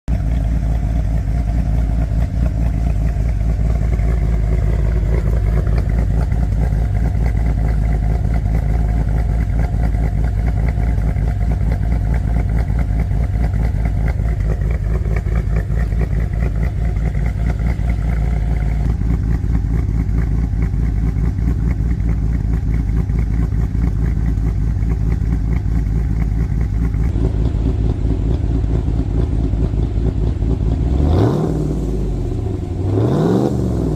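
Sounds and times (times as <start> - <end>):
engine idling with deep exhaust rumble: 0.1 - 33.9.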